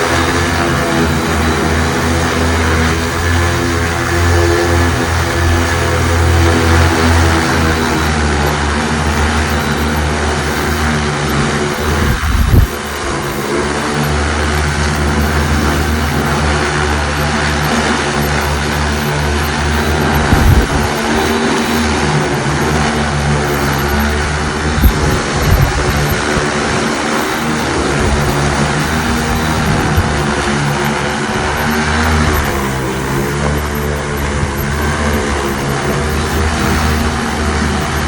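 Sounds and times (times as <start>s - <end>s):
drone propeller hum: 0.0s - 38.0s.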